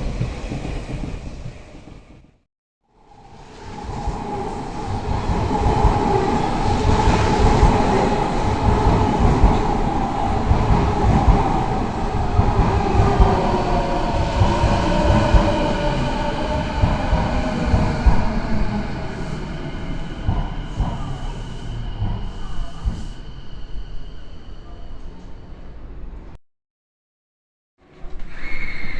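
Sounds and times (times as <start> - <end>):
train rumbling on rails: 0.0 - 26.4.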